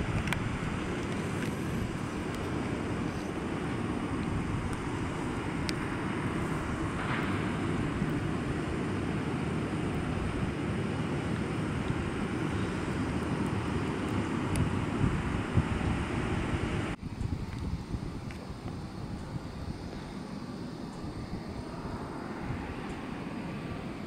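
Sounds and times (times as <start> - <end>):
jet engines idling: 0.0 - 24.0
wind on microphone: 0.0 - 24.0.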